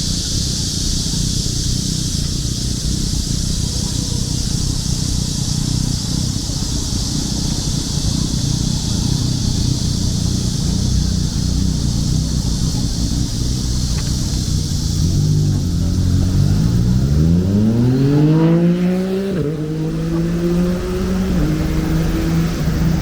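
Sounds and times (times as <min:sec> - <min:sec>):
cicadas singing: 0:00.0 - 0:23.0
low rumble: 0:00.0 - 0:23.0.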